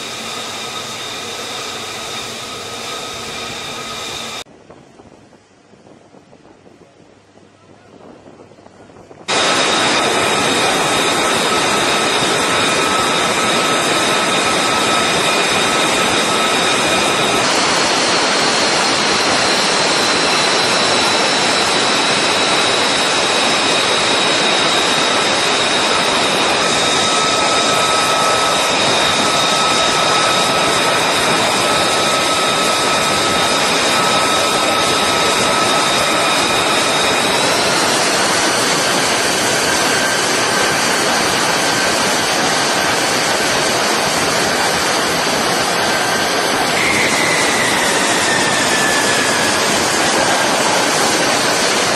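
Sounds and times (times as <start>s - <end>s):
jet engine rushing hiss: 0.0s - 4.5s, 9.3s - 51.9s
high jet engine whine: 0.0s - 51.9s.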